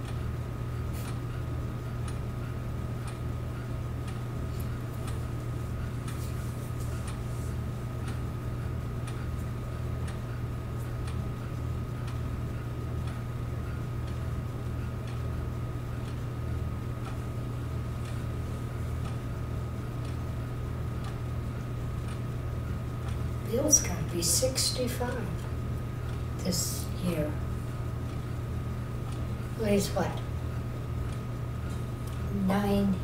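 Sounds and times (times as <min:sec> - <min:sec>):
film projector running: 0:00.0 - 0:33.0.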